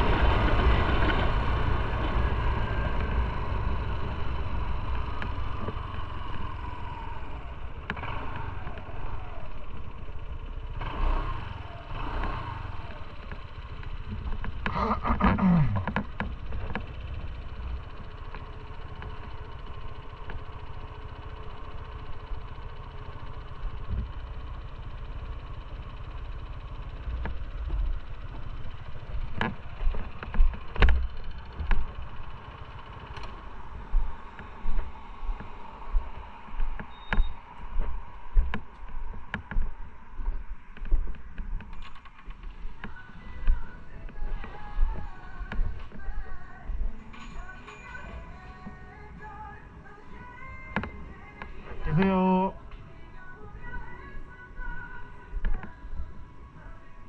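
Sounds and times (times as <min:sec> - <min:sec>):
motorcycle engine rumble: 0:00.0 - 0:57.0.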